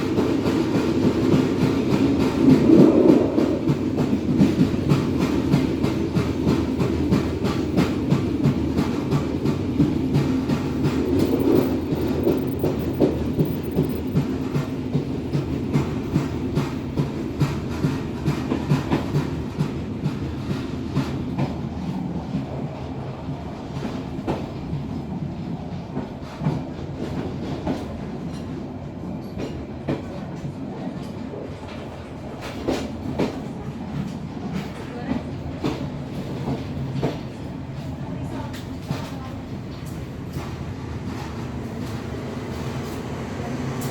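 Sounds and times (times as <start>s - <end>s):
train wheels clicking over rail joints: 0.0s - 22.7s, 25.8s - 43.9s
train rumble: 0.0s - 43.9s.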